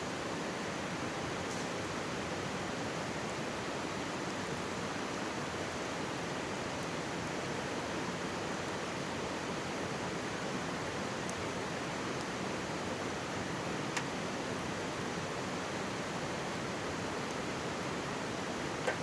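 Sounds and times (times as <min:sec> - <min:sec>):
faint campfire crackles: 0:00.4 - 0:19.0.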